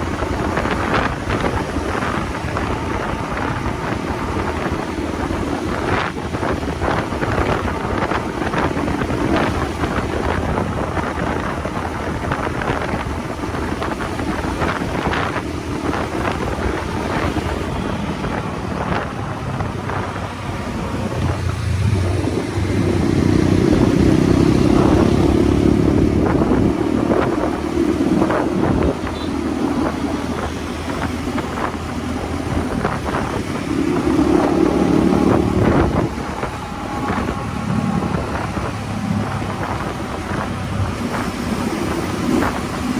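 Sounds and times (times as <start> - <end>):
motorcycle engine running: 0.0 - 42.9
wind rushing over microphone: 0.0 - 42.9.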